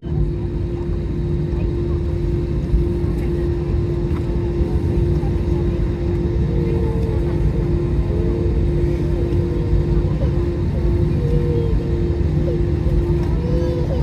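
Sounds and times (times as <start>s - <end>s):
constant hum: 0.0s - 14.0s
jet engine rumble in cabin: 0.0s - 14.0s.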